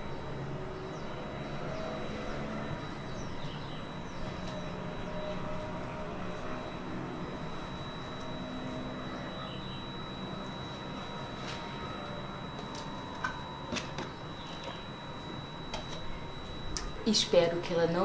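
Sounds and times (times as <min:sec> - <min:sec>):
gas water heater humming: 0:00.0 - 0:18.0.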